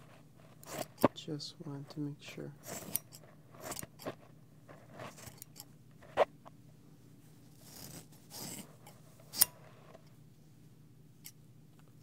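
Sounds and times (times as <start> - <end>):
soft rustling: 0.0 - 2.0, 2.6 - 10.8.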